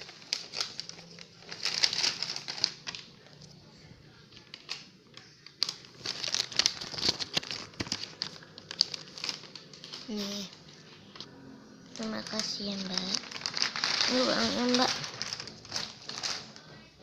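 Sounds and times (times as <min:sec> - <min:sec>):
crinkling and rustling with clicks: 0:00.0 - 0:11.3, 0:12.0 - 0:16.9.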